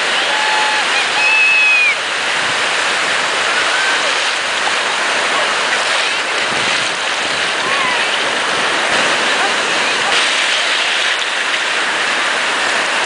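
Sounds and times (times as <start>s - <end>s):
breaking surf: 0.0s - 13.0s.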